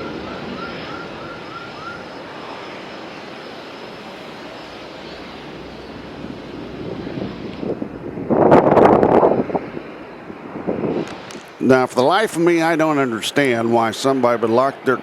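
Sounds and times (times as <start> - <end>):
aircraft engines rumbling: 0.0 - 15.0.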